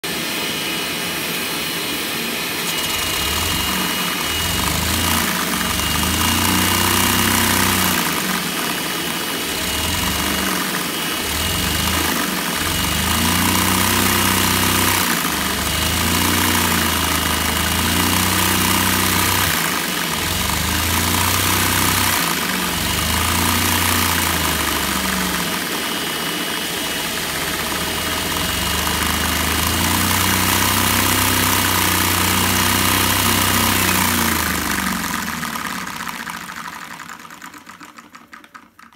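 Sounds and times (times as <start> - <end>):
engine drone with rattling clatter: 2.7 - 38.9.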